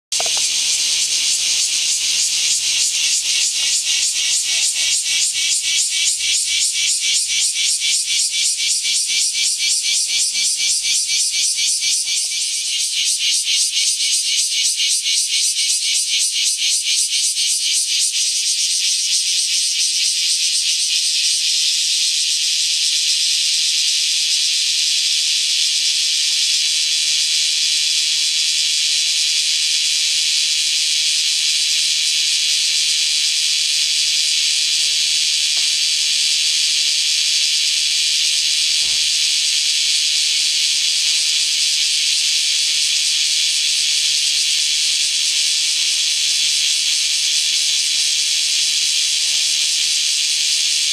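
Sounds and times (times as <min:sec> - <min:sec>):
cicadas singing shrill chorus: 0:00.1 - 0:50.9.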